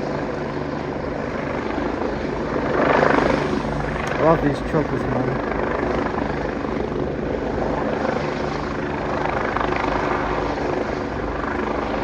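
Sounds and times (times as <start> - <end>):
helicopter flying overhead: 0.0 - 12.0.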